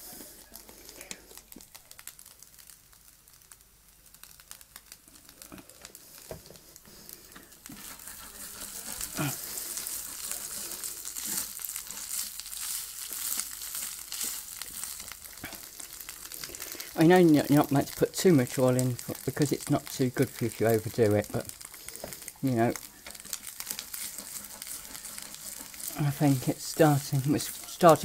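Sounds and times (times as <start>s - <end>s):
meat frying in a pan: 0.0s - 28.0s.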